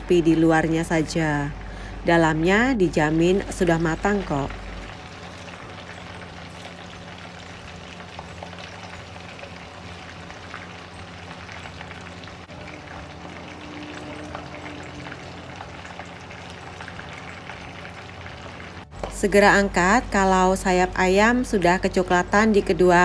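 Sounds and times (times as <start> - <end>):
chicken wings sizzling in oil: 0.0 - 23.0.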